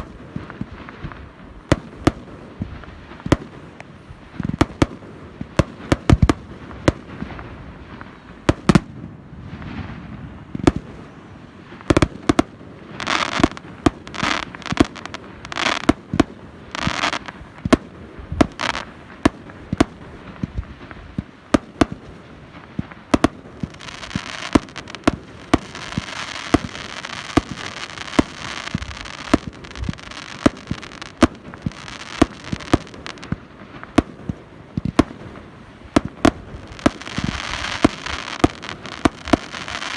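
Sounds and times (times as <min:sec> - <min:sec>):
dense firework crackling: 0:00.0 - 0:39.9
fireworks bangs: 0:00.0 - 0:39.9
hissing firework bursts: 0:00.0 - 0:39.9.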